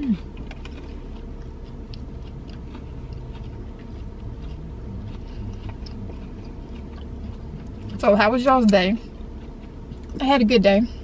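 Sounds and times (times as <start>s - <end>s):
low hum: 0.0s - 11.0s
person chewing crunchy food: 0.0s - 11.0s.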